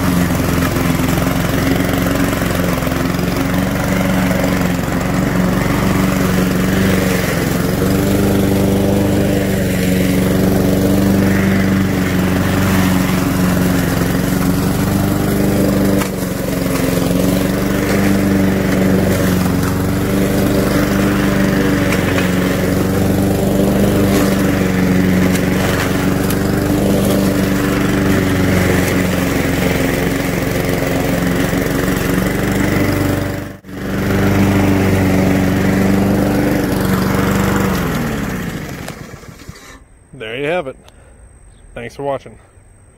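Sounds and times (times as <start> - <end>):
lawnmower engine running: 0.0 - 42.9.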